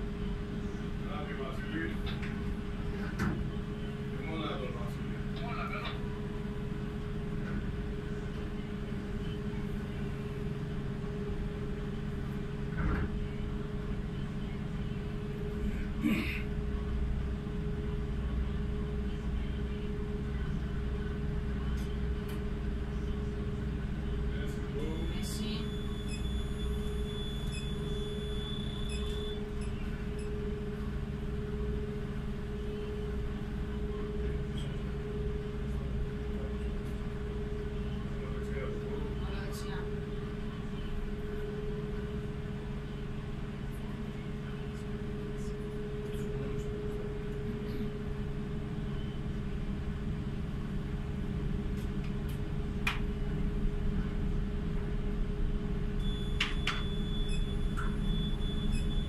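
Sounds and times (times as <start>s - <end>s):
constant hum: 0.0s - 59.0s
ferry engines droning: 0.0s - 59.0s.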